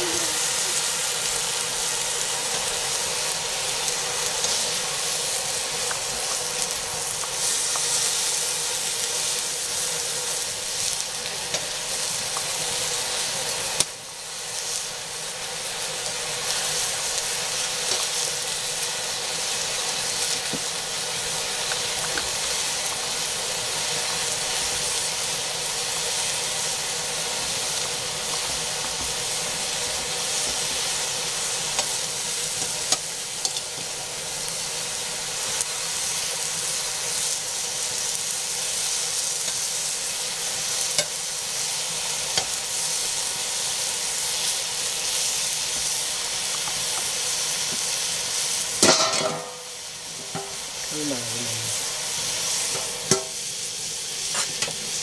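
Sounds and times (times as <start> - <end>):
leafy greens sizzling in a wok: 0.0 - 55.0.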